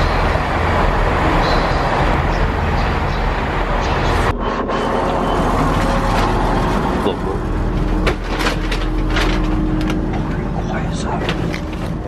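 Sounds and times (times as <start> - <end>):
train engine rumbling: 0.0 - 12.0.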